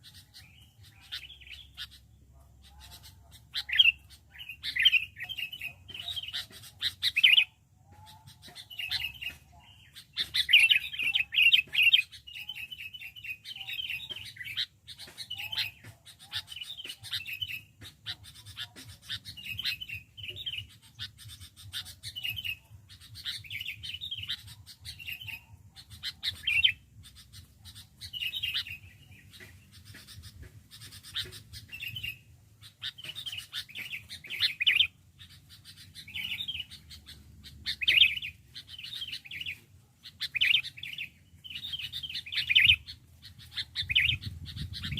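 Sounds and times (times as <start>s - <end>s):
bulbul chirping: 2.7s - 44.9s.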